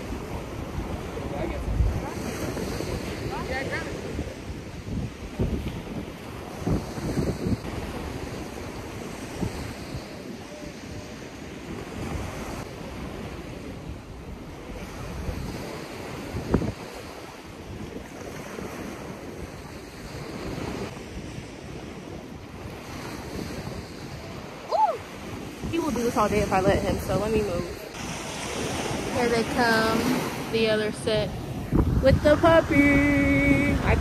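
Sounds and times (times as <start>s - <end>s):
waves washing on beach: 0.0s - 34.0s
wind buffeting microphone: 0.0s - 34.0s.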